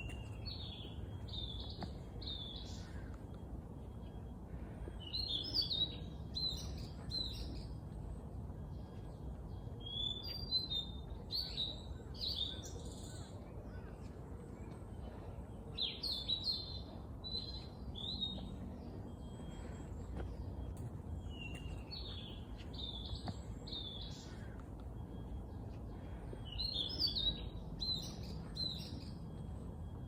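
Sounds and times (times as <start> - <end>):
low background rumble: 0.0 - 30.0
small birds chirping: 0.0 - 30.0.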